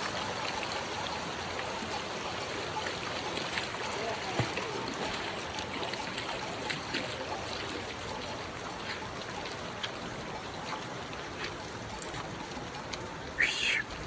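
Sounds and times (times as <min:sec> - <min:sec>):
faint water ticks: 0:00.0 - 0:14.0
stream flowing: 0:00.0 - 0:14.0.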